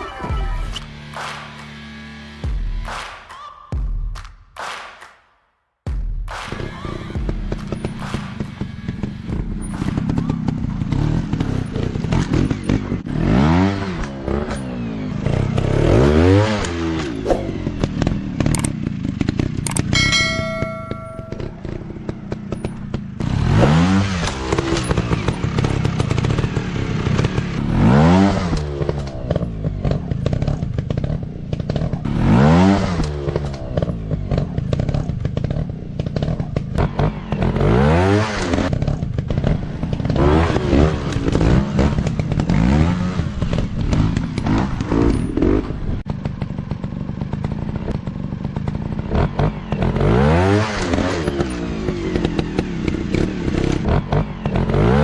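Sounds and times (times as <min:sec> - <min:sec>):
dirt bike engines revving: 0:06.6 - 0:55.0.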